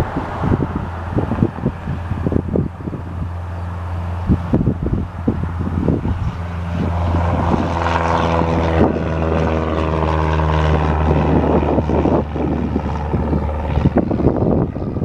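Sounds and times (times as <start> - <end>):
small plane engine drone: 0.0 - 15.0.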